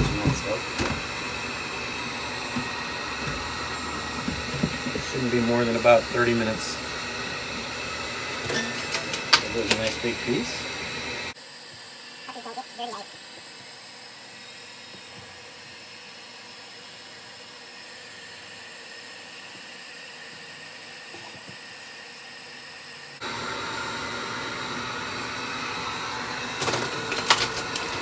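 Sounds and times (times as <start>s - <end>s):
hot-air blower running: 0.0s - 28.0s.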